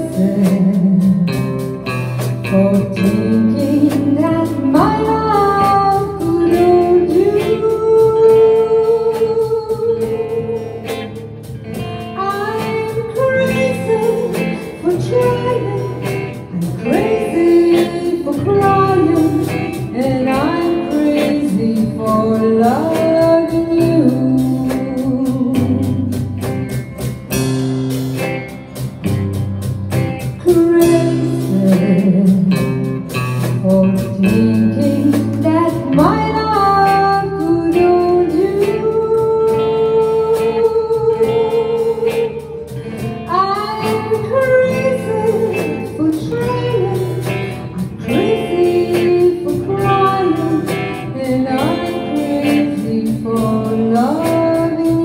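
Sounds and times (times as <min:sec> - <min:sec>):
woman singing: 0:00.0 - 0:27.0, 0:29.9 - 0:55.0
picked electric guitar: 0:00.0 - 0:55.0.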